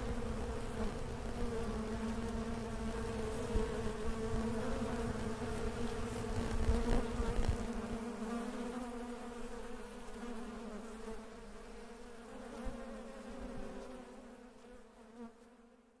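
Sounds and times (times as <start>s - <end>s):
bees buzzing: 0.0s - 13.5s.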